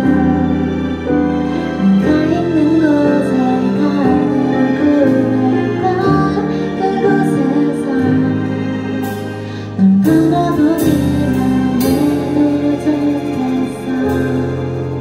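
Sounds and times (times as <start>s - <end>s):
woman singing: 0.0s - 1.2s, 1.8s - 8.8s, 9.6s - 15.0s
keyboard accompaniment: 0.0s - 15.0s.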